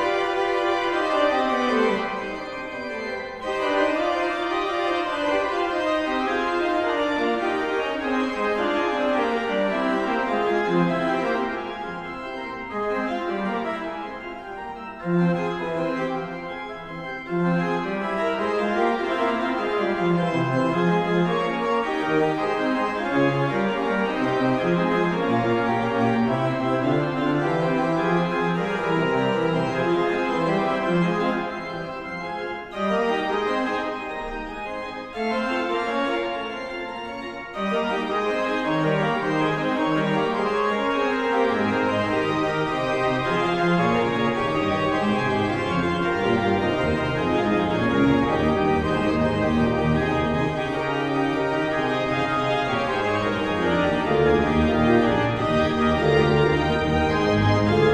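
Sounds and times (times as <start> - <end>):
organ music: 0.0 - 57.9.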